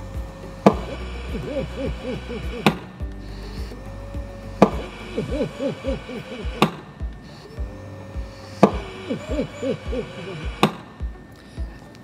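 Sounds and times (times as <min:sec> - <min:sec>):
warbling tone: 0:00.0 - 0:11.4
steady low hum: 0:00.0 - 0:12.0.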